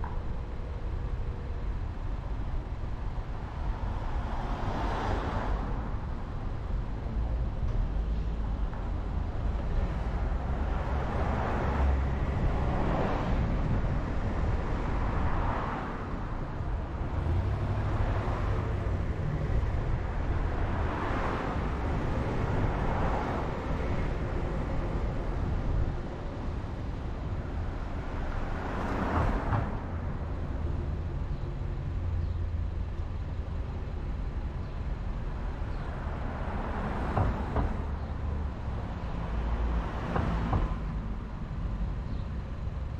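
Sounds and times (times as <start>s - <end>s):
car engine rumble: 0.0s - 42.9s
road noise: 0.0s - 42.9s
tyre and traffic noise: 0.0s - 42.9s.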